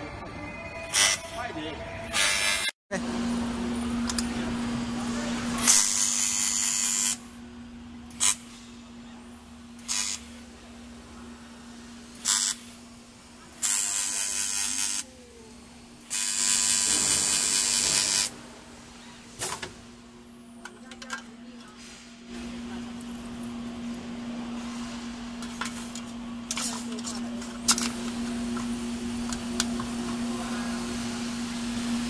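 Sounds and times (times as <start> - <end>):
welding machine hum: 2.2 - 32.0.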